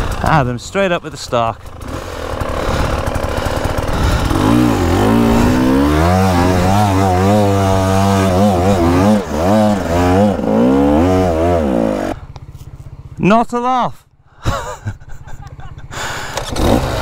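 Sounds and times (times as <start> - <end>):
dirt bike engine revving: 0.0 - 13.2, 14.5 - 17.0.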